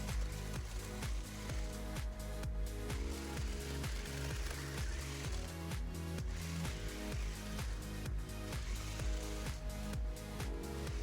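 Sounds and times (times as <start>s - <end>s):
kick drum: 0.0s - 11.0s.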